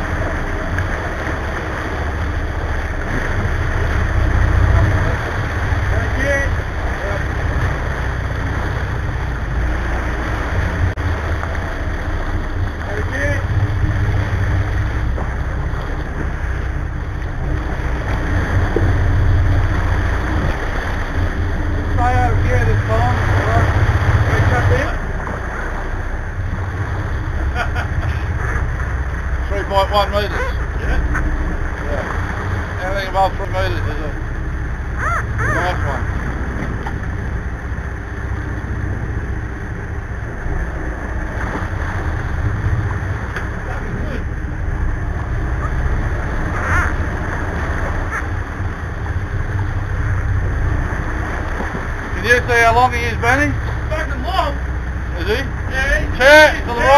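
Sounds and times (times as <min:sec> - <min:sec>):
boat diesel engines rumbling: 0:00.0 - 0:56.9
churning wake water: 0:00.0 - 0:56.9.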